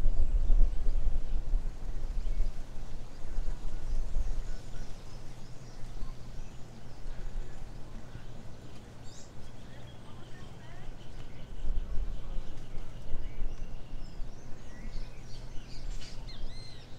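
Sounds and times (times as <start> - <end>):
faint bird chirps: 0.0 - 16.9
steady low rumble: 0.0 - 16.9.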